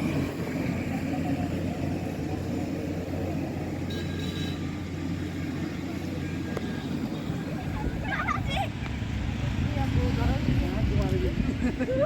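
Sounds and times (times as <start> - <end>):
engine hum: 0.0 - 12.0
road noise: 0.0 - 12.0.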